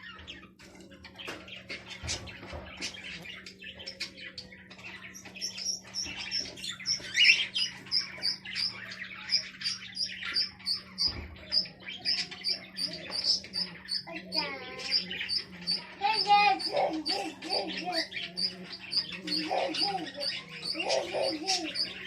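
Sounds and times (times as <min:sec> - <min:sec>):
small cage birds chirping: 0:00.0 - 0:22.0.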